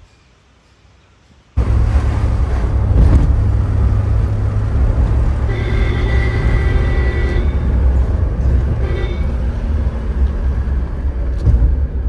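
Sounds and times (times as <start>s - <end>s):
car engine and road noise: 1.4s - 12.0s.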